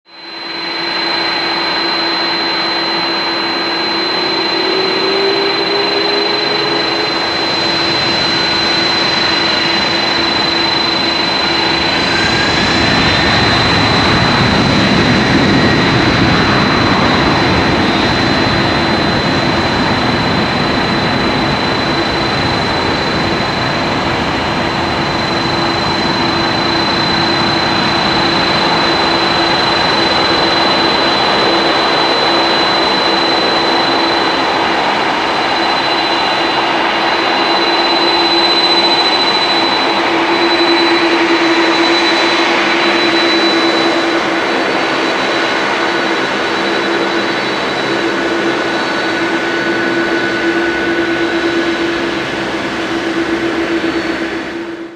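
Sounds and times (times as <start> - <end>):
jet engines at takeoff thrust: 0.0 - 54.9.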